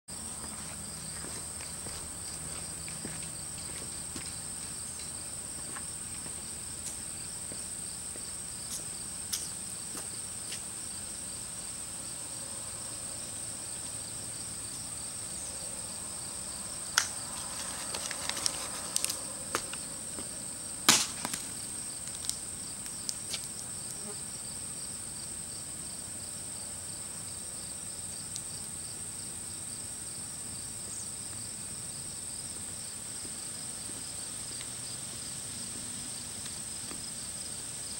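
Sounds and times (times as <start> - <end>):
crickets and insects chirping: 0.1 - 37.9.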